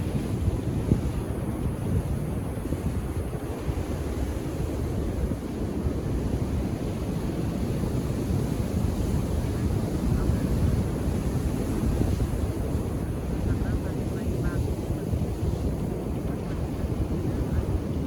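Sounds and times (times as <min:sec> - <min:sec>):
ocean waves washing onto beach: 0:00.0 - 0:18.0
wind rumble on microphone: 0:00.0 - 0:18.0.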